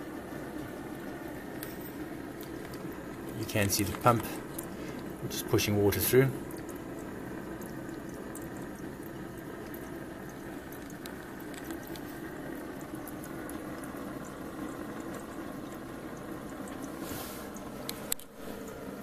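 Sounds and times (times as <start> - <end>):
water pump circulating: 0.0 - 19.0.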